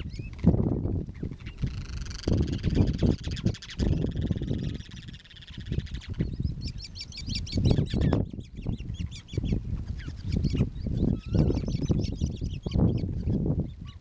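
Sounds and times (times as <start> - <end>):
birds chirping: 0.0 - 14.0
wind buffeting microphone: 0.0 - 14.0.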